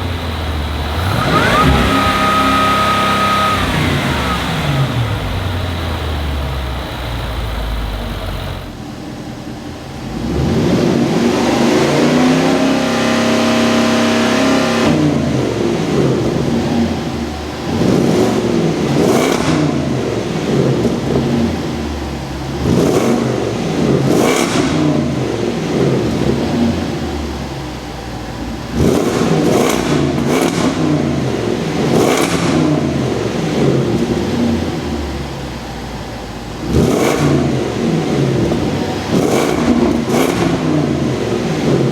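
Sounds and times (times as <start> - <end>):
engine accelerating hard: 0.0 - 8.9, 9.9 - 41.9.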